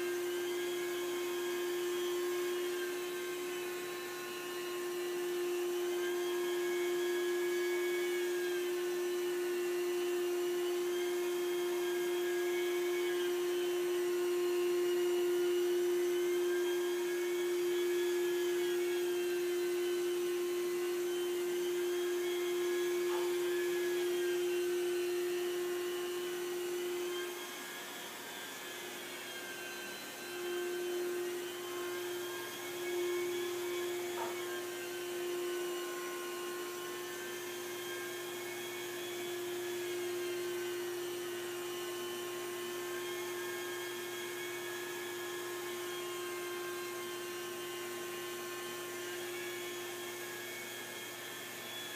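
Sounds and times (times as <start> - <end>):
carpet cleaning machine whine: 0.0 - 51.9.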